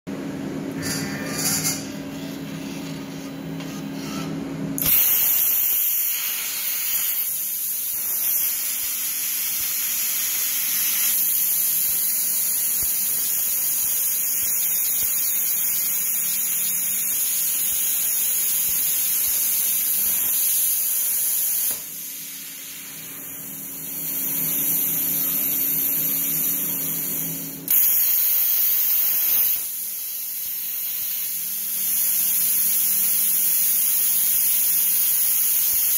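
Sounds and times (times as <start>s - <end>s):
plasma cutter arc hissing: 4.8s - 35.9s.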